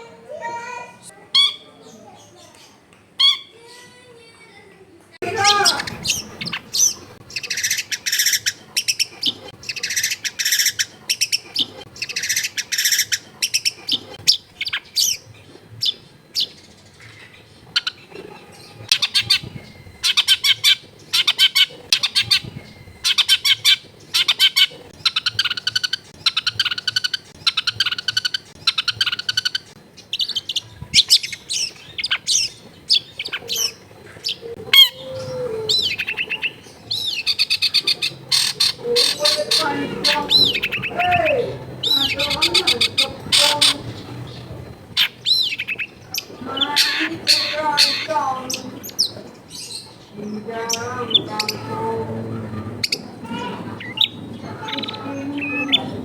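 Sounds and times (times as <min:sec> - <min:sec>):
bird singing harsh chattering song: 0:05.2 - 0:56.0.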